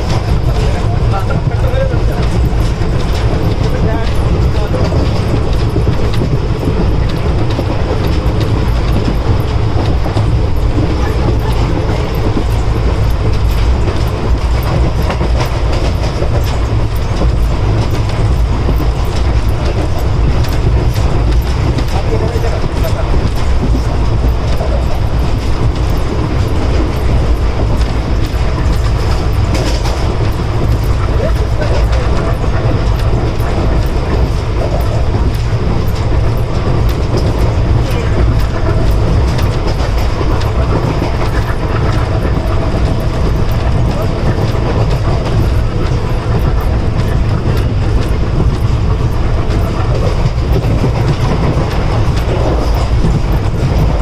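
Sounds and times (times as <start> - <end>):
train coach rumbling: 0.0 - 54.0
wheels clicking over rail joints: 0.0 - 54.0.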